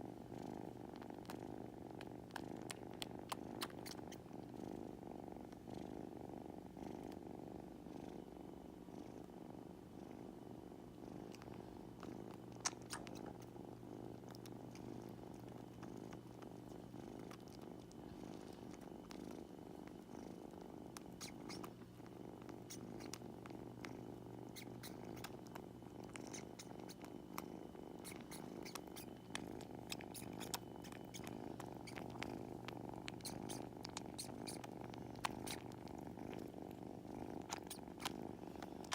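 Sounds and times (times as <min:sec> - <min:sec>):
kitten purring: 0:00.0 - 0:38.9.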